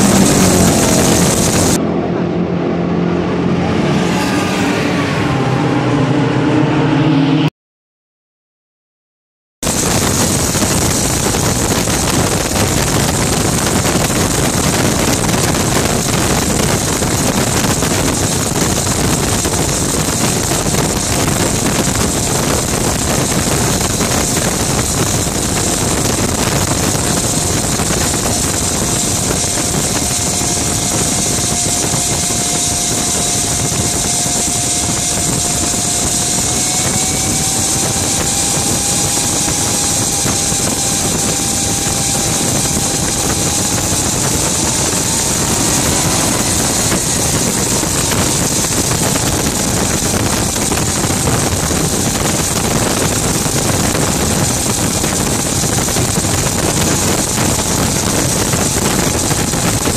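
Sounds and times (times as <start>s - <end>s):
gas turbine rushing with whine: 0.0s - 7.5s, 9.6s - 59.9s.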